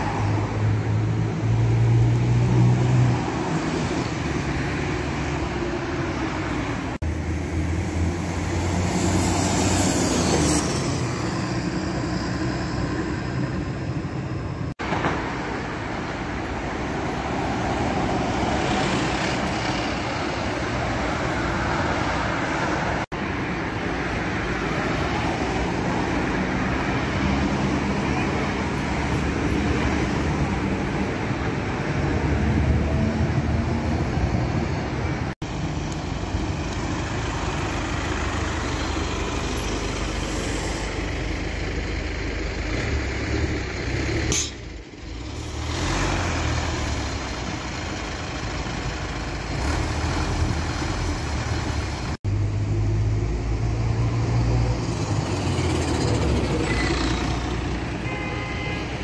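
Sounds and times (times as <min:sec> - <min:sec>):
cars and buses passing: 0:00.0 - 0:59.0
bus diesel engine rumbling: 0:03.3 - 0:59.0.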